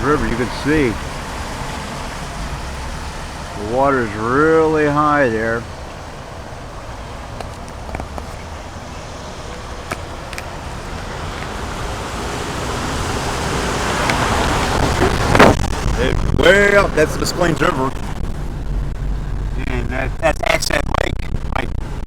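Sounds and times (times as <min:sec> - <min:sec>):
car road and tyre noise: 0:00.0 - 0:22.0.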